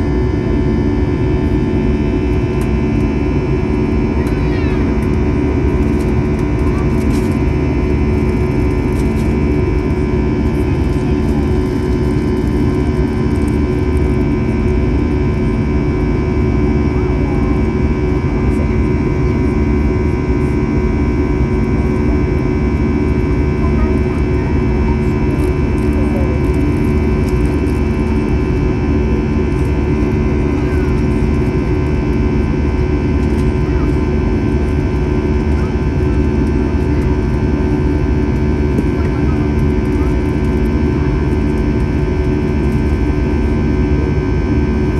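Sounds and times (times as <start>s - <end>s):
jet engines rumbling and whining: 0.0s - 44.9s.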